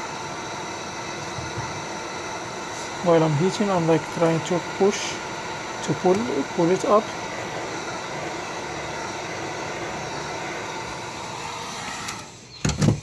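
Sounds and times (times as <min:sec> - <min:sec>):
heat gun blowing hot air: 0:00.0 - 0:12.5.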